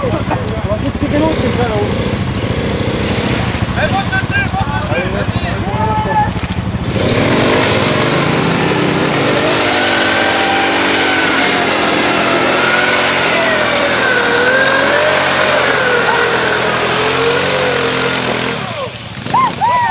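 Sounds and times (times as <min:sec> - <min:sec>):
car engine at high revs: 0:00.0 - 0:19.9.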